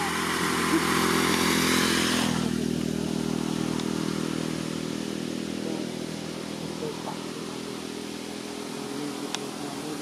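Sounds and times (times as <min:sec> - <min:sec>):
passing traffic rush: 0:00.0 - 0:10.0
vehicle engine running: 0:00.0 - 0:10.0.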